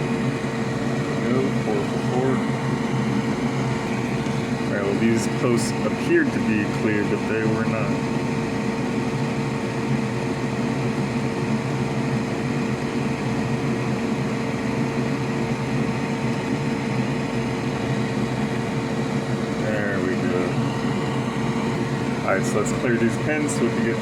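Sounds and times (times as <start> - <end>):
fan machine whirring: 0.0 - 24.0.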